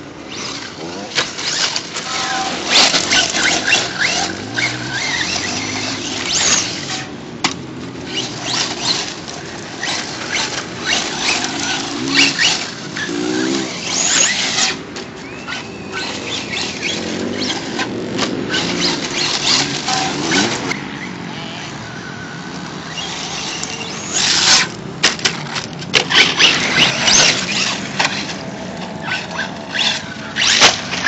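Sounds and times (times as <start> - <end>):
rc truck motor whine: 0.0 - 24.9, 25.5 - 31.0
tyres crackling on gravel: 0.0 - 31.0.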